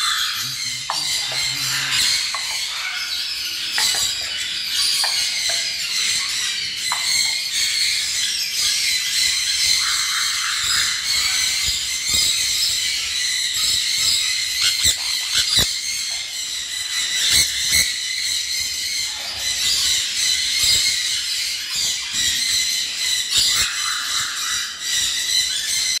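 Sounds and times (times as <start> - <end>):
birds chirping and squawking: 0.0 - 26.0.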